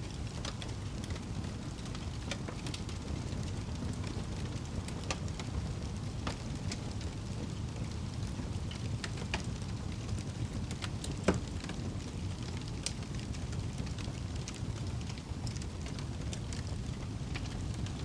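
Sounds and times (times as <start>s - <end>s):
fire popping: 0.0s - 18.0s
low rumble of flames: 0.0s - 18.0s.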